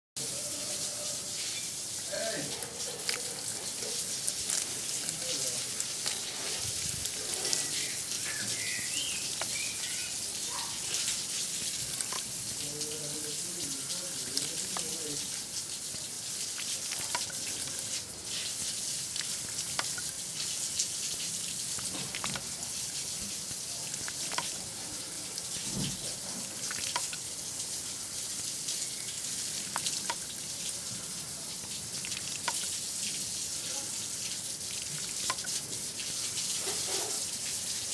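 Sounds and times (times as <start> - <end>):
water drips: 0.2 - 37.9
water splashing from spout: 0.2 - 37.9.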